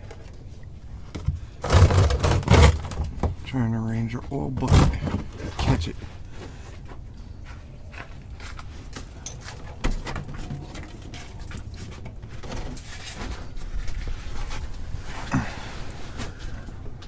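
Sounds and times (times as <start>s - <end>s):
bucket being shuffled: 0.0s - 3.6s, 4.2s - 17.0s
knocks and scrapes under car: 1.0s - 3.5s, 4.5s - 17.0s.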